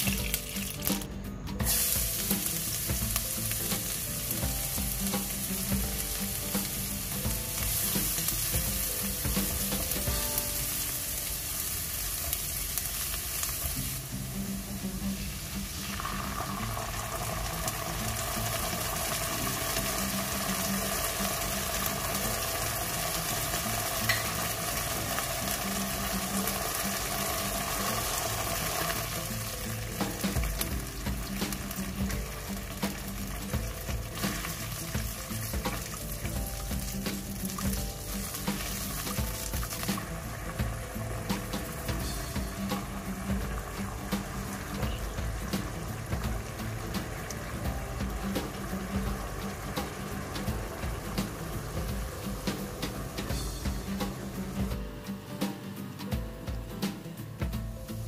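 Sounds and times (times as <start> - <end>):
garlic sizzling in oil: 0.0 - 55.6.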